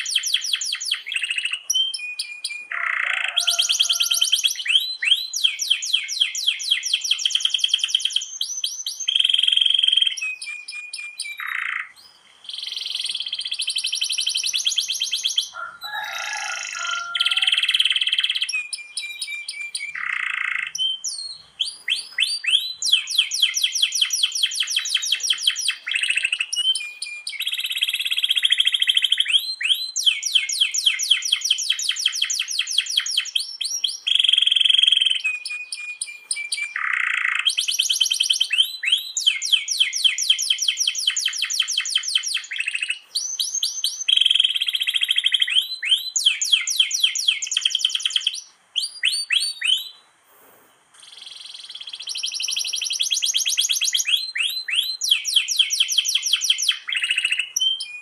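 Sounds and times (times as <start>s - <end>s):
canary singing: 0.0s - 50.0s, 50.7s - 58.0s.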